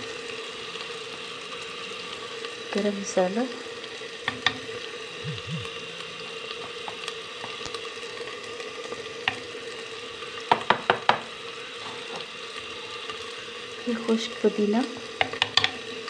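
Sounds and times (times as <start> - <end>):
masala sizzling: 0.0 - 16.0.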